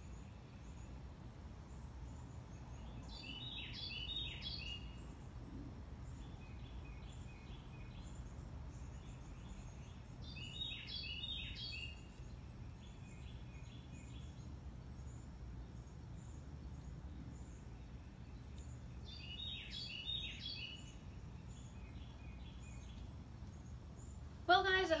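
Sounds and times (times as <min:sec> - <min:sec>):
low background noise: 0:00.0 - 0:25.0
songbird chirping: 0:00.0 - 0:25.0.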